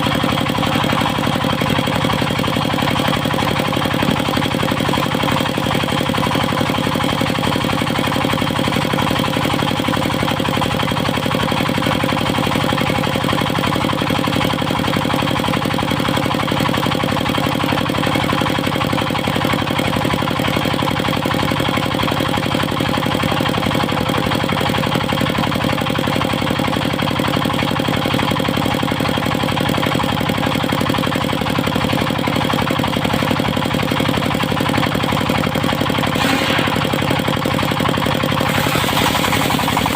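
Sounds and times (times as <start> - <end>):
sawmill engine running: 0.0 - 20.6, 23.5 - 39.9.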